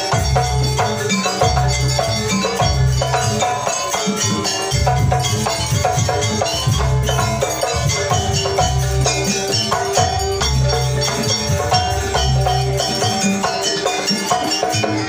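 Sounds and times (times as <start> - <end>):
keyboard and hand drums dance music: 0.0 - 15.0.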